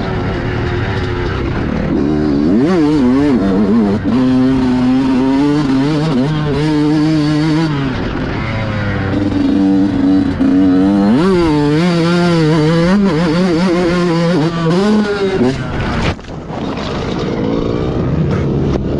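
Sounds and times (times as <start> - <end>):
motocross bike engine revving: 0.0 - 18.9.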